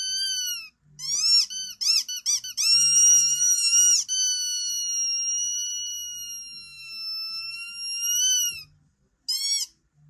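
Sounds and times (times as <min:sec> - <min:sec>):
high-pitched squeaking: 0:00.0 - 0:08.7, 0:09.3 - 0:09.8.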